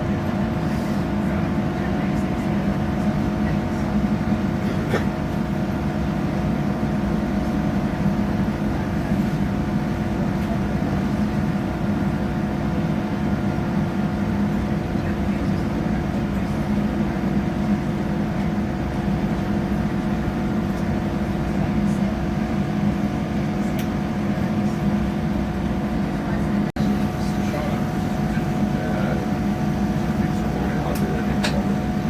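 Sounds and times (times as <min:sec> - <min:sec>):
train carriage rumble: 0:00.0 - 0:32.0.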